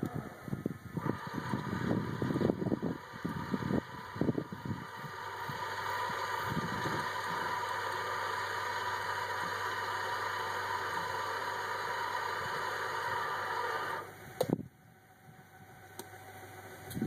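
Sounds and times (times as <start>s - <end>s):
electric seat motor humming: 0.0s - 17.0s.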